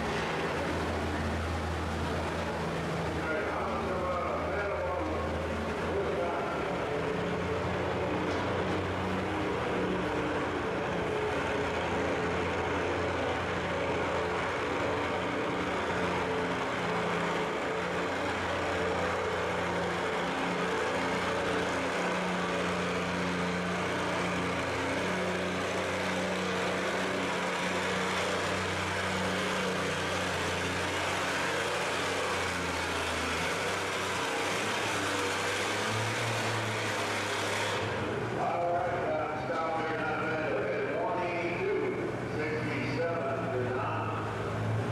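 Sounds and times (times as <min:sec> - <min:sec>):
tractor engine under heavy load: 0:00.0 - 0:44.9.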